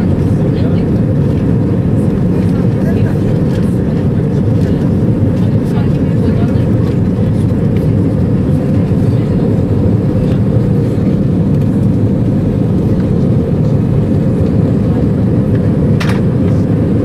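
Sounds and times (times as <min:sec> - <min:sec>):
jet engines rumbling: 0:00.0 - 0:17.0
rushing air in cabin: 0:00.0 - 0:17.0.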